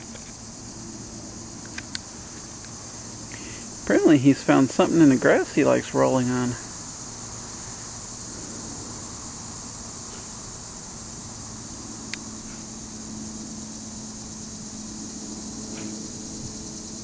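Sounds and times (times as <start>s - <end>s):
high-pitched hiss: 0.0s - 17.0s
low even hum: 0.0s - 17.0s.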